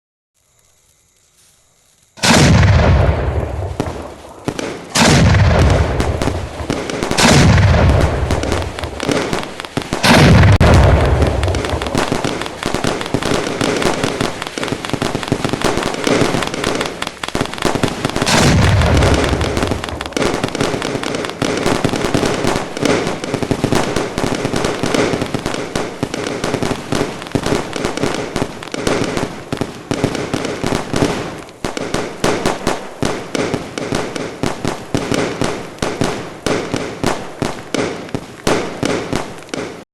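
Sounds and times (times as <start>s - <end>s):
fireworks crackling: 0.4s - 39.9s
fireworks booming: 2.1s - 39.8s.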